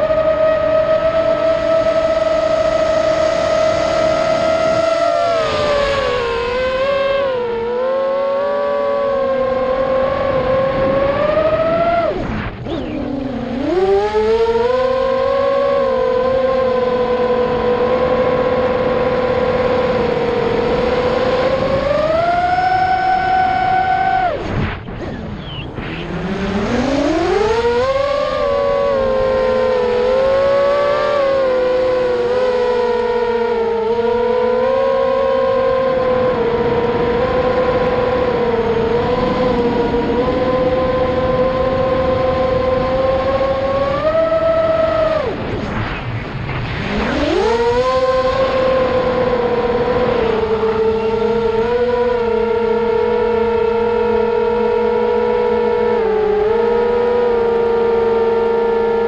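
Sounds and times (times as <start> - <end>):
quadcopter motors whining: 0.0 - 45.9, 46.5 - 59.0.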